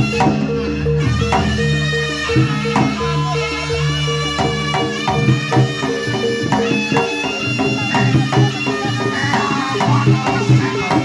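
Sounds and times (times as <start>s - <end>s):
gamelan percussion: 0.0s - 11.0s
shawm melody: 0.0s - 11.0s.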